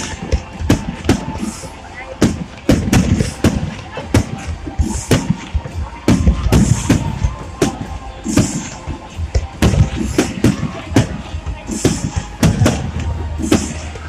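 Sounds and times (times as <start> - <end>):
high firework crackling: 0.0 - 14.0.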